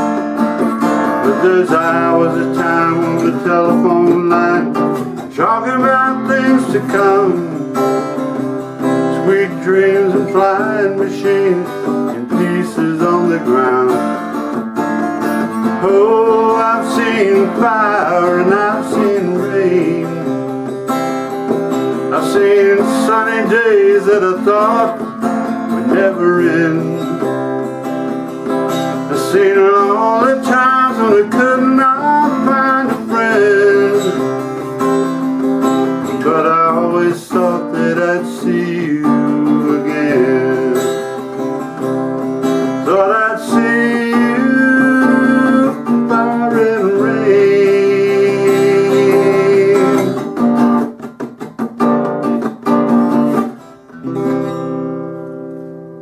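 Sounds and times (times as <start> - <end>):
person singing: 0.0 - 20.8, 21.9 - 51.0
acoustic guitar: 0.0 - 56.0.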